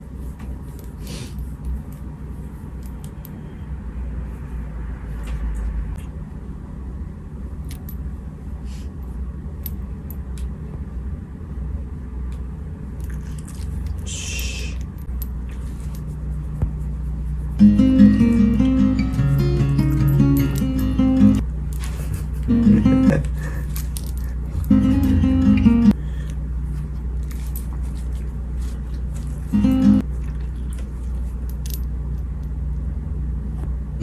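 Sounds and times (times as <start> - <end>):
steady low rumble: 1.4 - 34.0.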